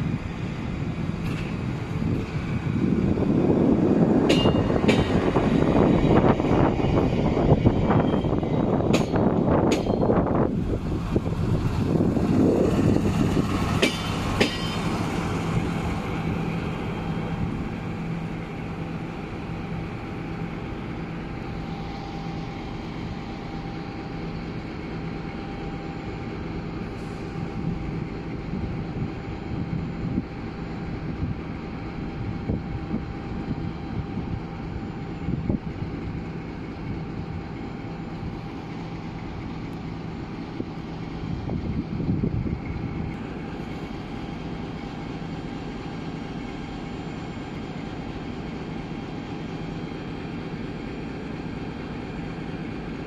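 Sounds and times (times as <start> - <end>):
train engine hum: 0.0 - 53.0.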